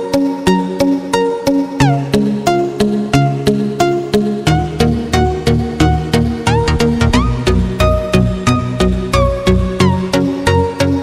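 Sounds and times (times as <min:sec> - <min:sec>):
electronic music with bass: 0:00.0 - 0:11.0.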